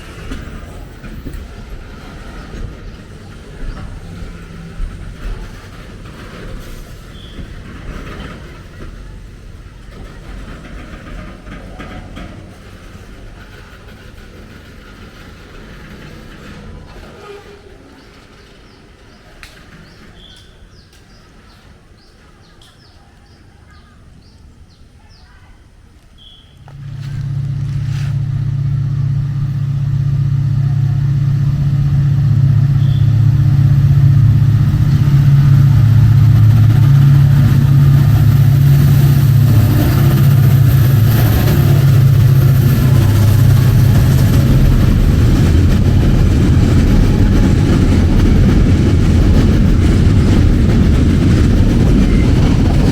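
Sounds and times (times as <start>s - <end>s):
diesel locomotive engine drone: 0.0s - 22.3s, 26.6s - 52.9s.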